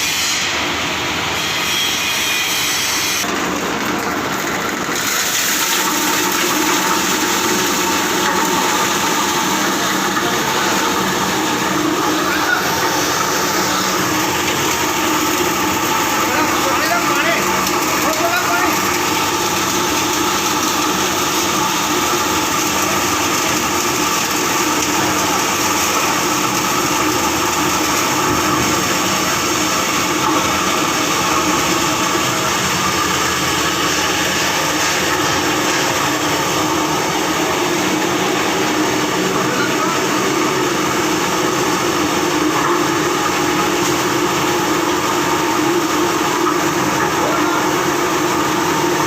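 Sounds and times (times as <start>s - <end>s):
industrial washing machine running: 0.0s - 49.0s.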